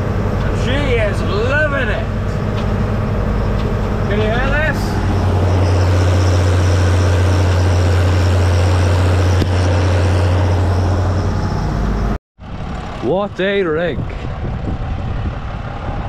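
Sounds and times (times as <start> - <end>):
tractor diesel engine droning: 0.0 - 16.0.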